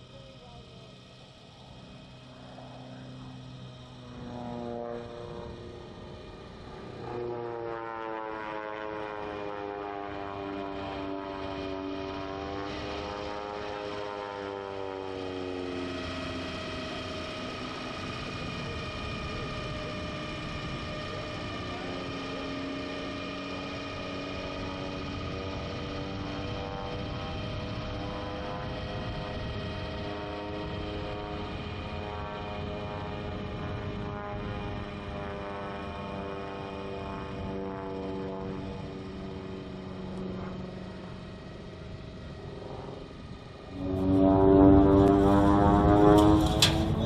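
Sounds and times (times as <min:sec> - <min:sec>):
propeller plane droning overhead: 0:00.0 - 0:47.0.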